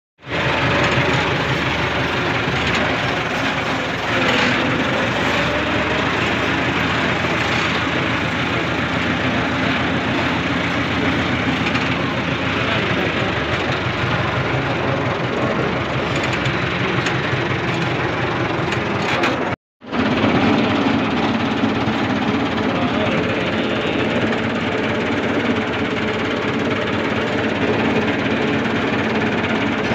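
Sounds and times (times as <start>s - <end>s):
tractor engine running: 0.2s - 29.9s.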